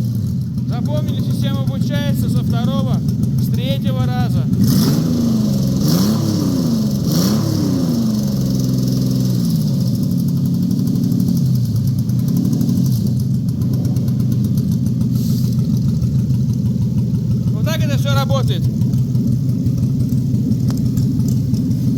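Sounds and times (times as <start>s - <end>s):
engine revving and idling: 0.0s - 21.9s.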